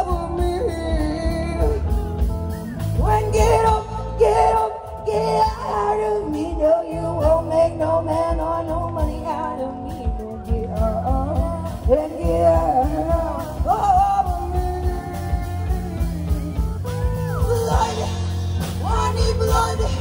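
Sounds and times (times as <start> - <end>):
person singing: 0.0 - 2.2, 2.8 - 20.0
bass: 0.0 - 20.0
electric guitar: 0.0 - 20.0.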